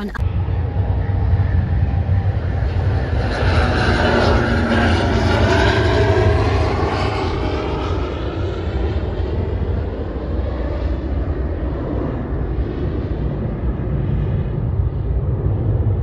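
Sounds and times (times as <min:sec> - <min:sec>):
airplane engine rushing overhead: 0:00.0 - 0:16.0
jet engine whine: 0:00.0 - 0:16.0.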